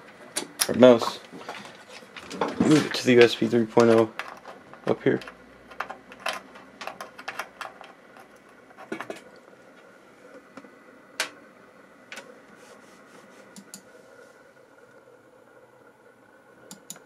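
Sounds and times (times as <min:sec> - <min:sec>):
computer humming: 0:00.0 - 0:17.0.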